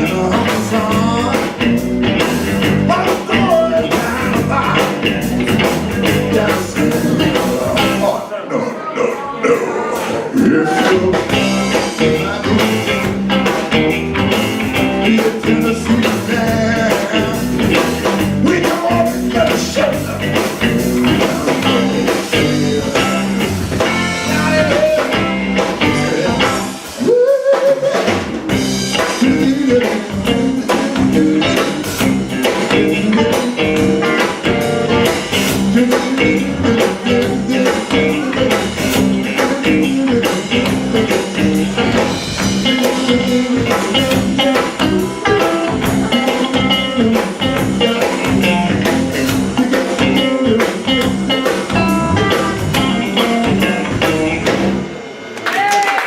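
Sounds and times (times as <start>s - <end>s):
person singing: 0.0s - 1.6s, 2.8s - 13.1s, 14.8s - 28.3s, 29.0s - 54.3s
blues-rock band playing: 0.0s - 8.2s, 9.9s - 55.4s.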